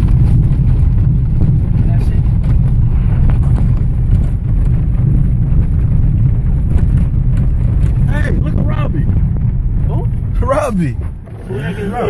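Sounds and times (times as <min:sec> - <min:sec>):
knocks and rattles: 0:00.0 - 0:10.3
engine and tyres rumbling: 0:00.0 - 0:12.0.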